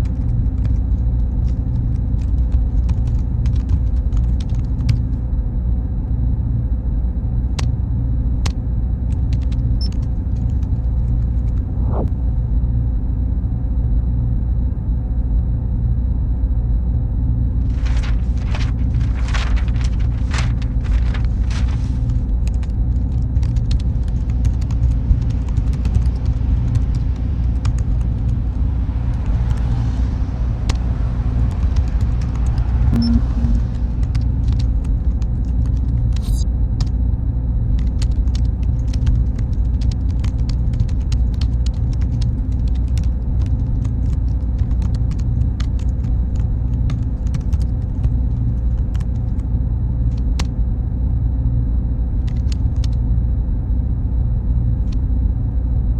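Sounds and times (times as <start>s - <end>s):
cooling fans rumbling: 0.0s - 55.9s
faint hum tones: 0.0s - 55.9s.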